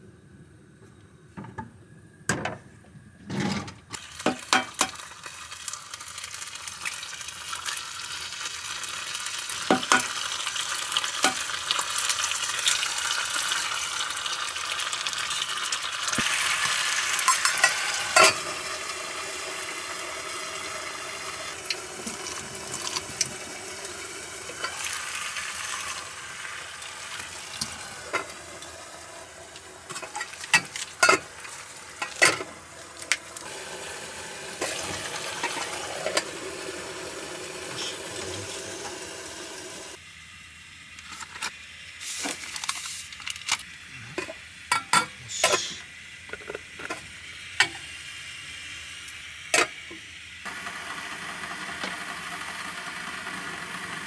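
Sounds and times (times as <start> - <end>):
food sizzling in a frying pan: 3.9 - 54.0.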